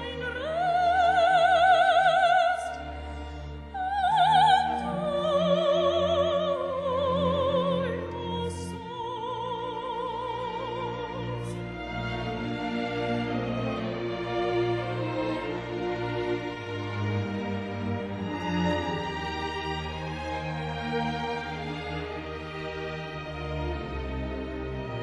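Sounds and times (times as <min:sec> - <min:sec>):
soprano singing: 0:00.0 - 0:25.0
string orchestra: 0:00.0 - 0:25.0.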